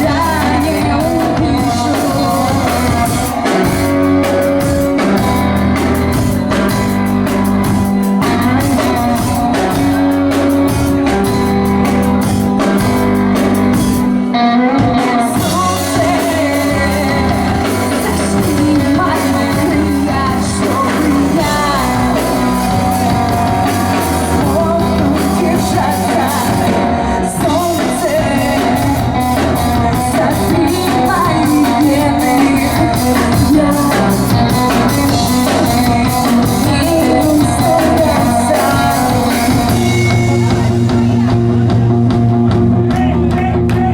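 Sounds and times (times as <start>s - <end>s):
person singing: 0.0s - 42.2s
live rock band playing: 0.0s - 43.9s.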